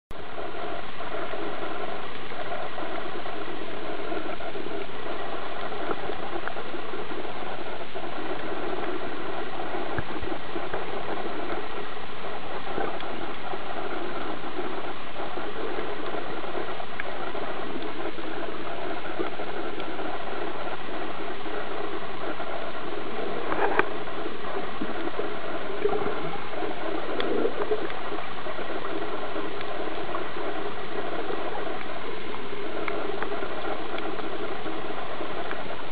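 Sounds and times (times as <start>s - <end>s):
underwater engine drone: 0.1s - 35.9s.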